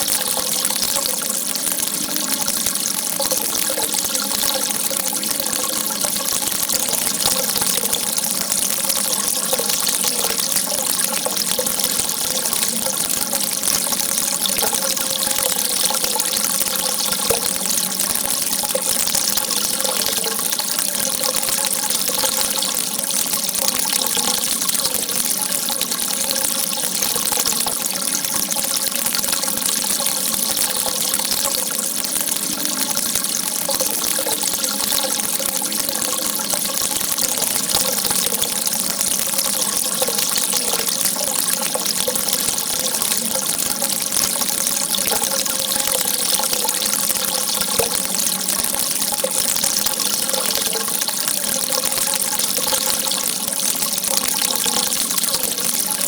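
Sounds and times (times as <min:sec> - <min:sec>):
water gushing: 0:00.0 - 0:56.0.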